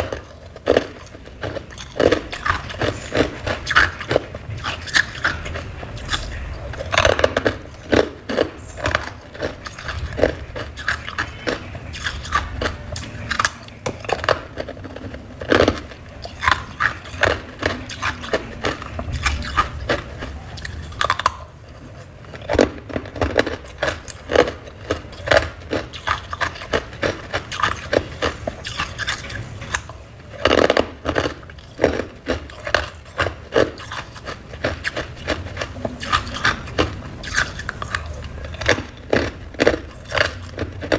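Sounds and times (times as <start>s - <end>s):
chewing crunchy frost: 0.0s - 40.9s.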